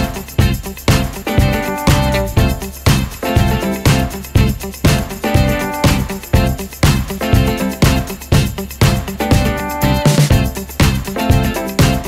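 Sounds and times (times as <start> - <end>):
upbeat music with steady beat: 0.0 - 12.0.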